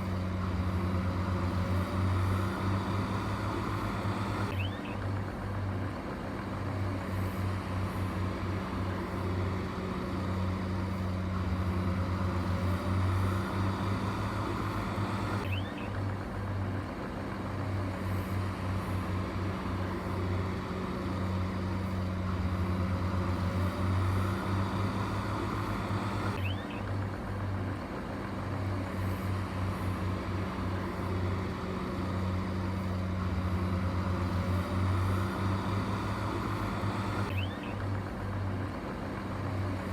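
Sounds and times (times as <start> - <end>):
heavy machinery engine throbbing: 0.0 - 39.9.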